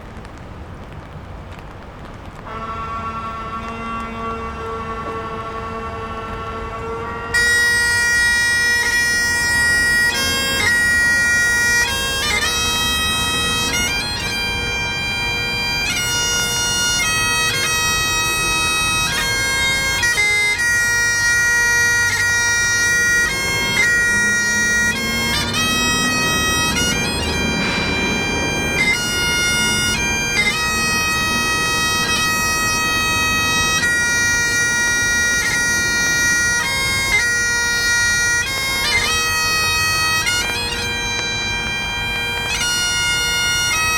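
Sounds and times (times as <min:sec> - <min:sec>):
bagpipes playing slow tune: 0:02.4 - 0:43.9.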